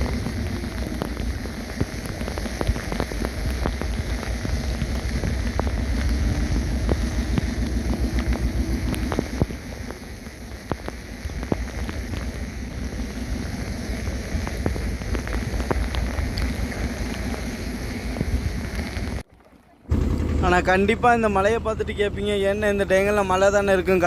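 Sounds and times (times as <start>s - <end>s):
heavy rain on sea and boat: 0.0s - 24.0s
raindrops ticking on surfaces: 0.0s - 24.0s.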